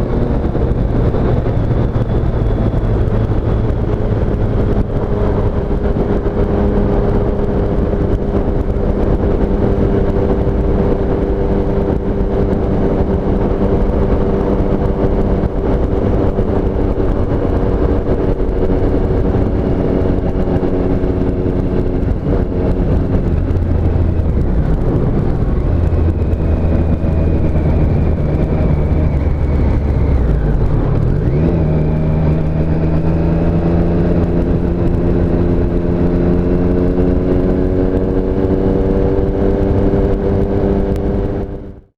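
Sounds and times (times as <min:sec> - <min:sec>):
motorcycle engine running: 0:00.0 - 0:41.9
steady rushing noise: 0:00.0 - 0:41.9.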